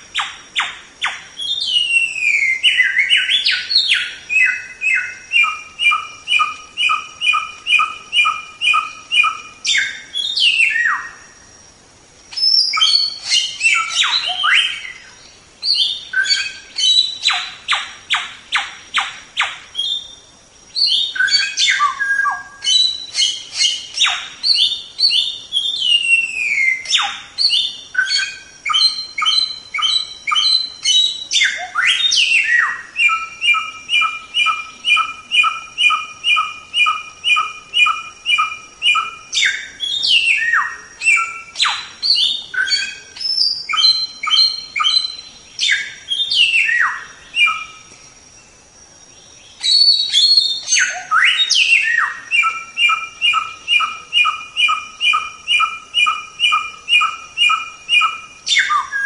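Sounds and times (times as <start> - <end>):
downward-sweeping bird calls: 0.0 - 11.5, 12.3 - 59.0
songbird singing whistled notes: 0.0 - 11.7, 12.3 - 59.0.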